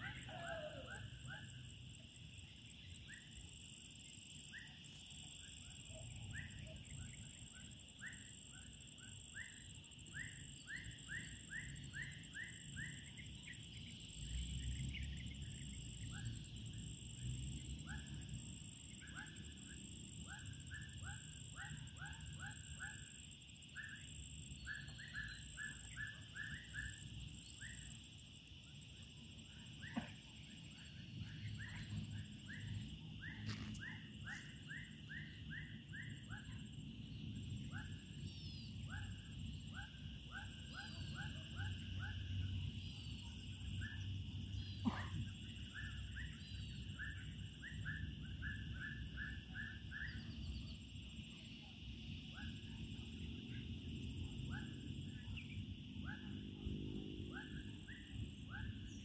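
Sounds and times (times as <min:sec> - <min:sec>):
insect chorus drone: 0:00.0 - 0:59.0.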